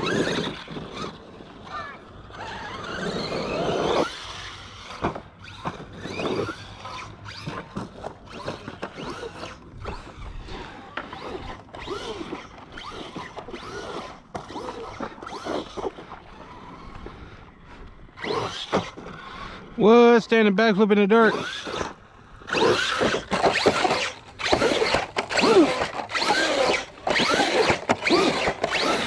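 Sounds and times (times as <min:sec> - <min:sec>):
electric motor whining: 0:00.0 - 0:19.8, 0:21.2 - 0:29.0.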